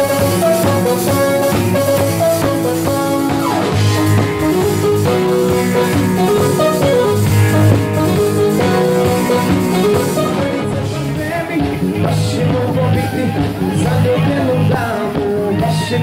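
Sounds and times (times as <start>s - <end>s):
drum kit: 0.0s - 16.0s
guitar: 0.0s - 16.0s.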